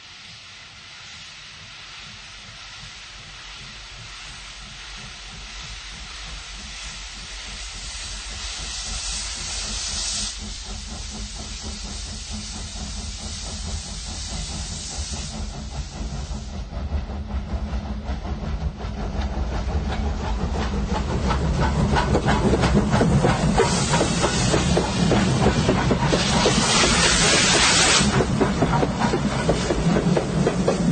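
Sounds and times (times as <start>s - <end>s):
steam hissing: 0.0s - 30.9s
locomotive exhaust beat and rumble: 0.4s - 30.9s.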